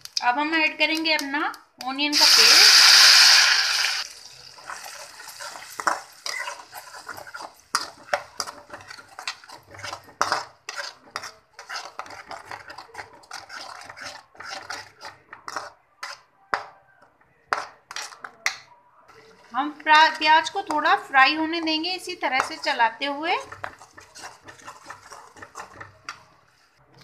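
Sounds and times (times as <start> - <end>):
metal spatula scraping a pan: 3.8 - 16.4, 17.4 - 27.0.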